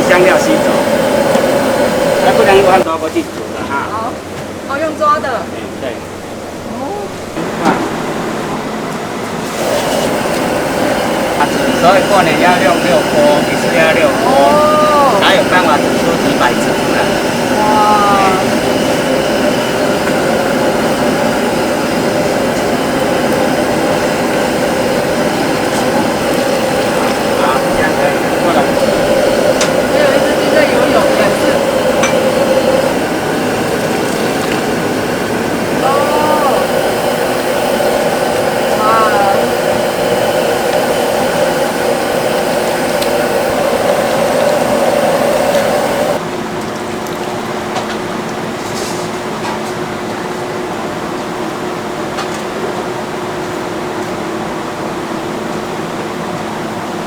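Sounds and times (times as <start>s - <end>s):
machine humming: 0.0s - 46.2s
kitchen equipment roaring: 0.0s - 57.0s.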